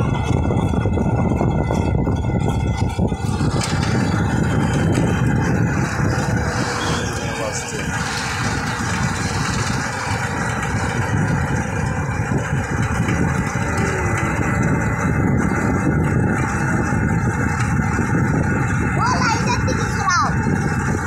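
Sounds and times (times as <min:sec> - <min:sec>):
rickshaw engine rumble: 0:00.0 - 0:21.0
wind buffeting microphone: 0:00.0 - 0:21.0.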